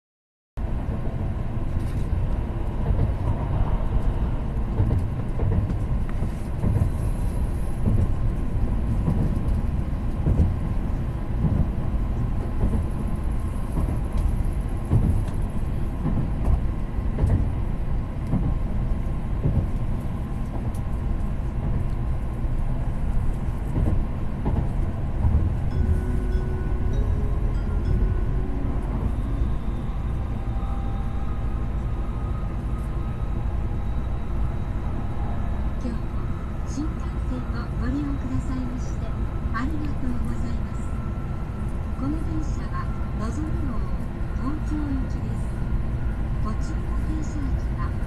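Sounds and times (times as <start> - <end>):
train car low rumble: 0.6 - 48.0.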